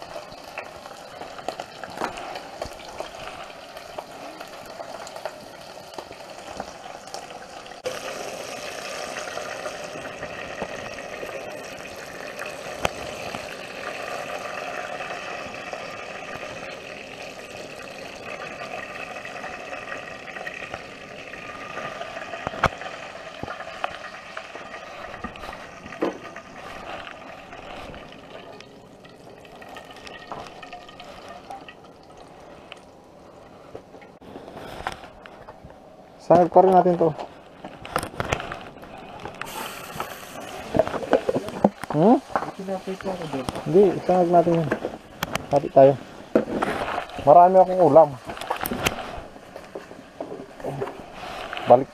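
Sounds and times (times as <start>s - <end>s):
food sizzling and bubbling: 0.0s - 51.9s.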